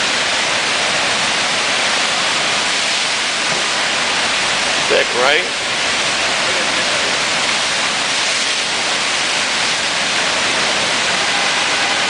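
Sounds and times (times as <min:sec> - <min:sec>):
rushing whitewater: 0:00.0 - 0:12.0.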